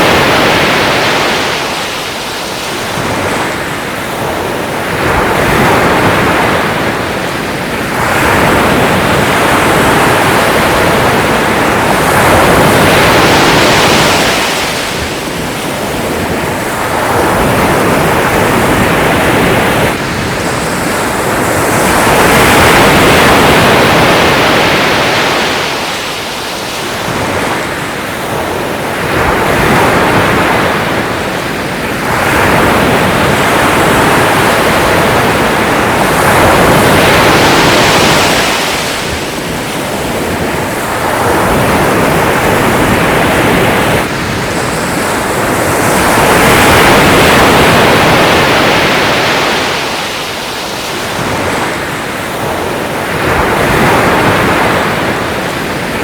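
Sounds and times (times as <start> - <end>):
sea waves washing on shore: 0.0 - 56.0.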